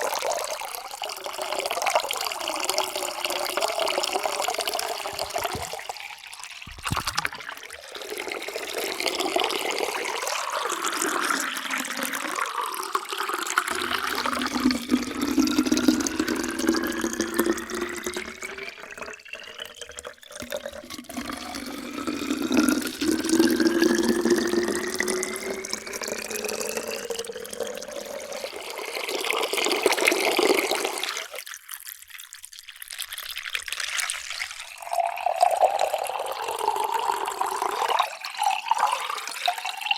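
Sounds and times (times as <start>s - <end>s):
water pouring into a vessel: 0.0s - 39.9s.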